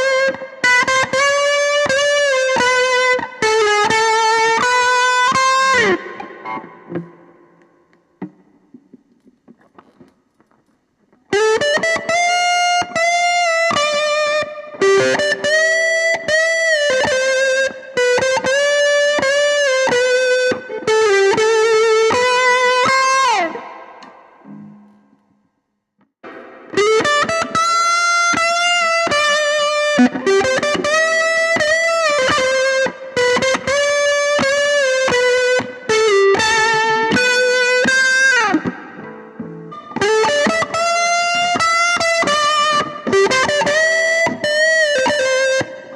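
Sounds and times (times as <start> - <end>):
overdriven electric guitar lead: 0.0 - 25.3, 26.2 - 45.9.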